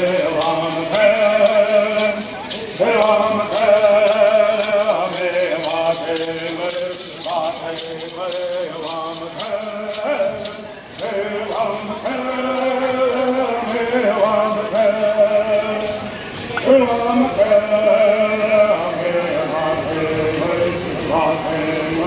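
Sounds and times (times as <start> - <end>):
gourd rattles shaken: 0.0 - 22.0
people singing in unison: 0.0 - 22.0.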